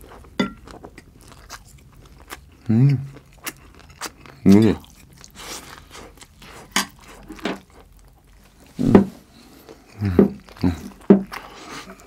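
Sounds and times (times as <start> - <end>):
chewing food: 0.0 - 12.0.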